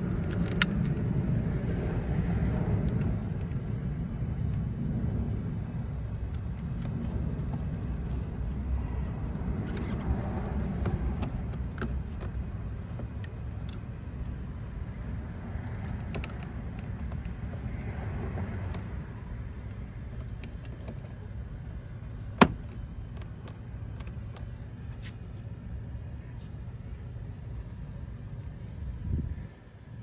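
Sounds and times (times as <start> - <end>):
low outdoor rumble: 0.0 - 30.0.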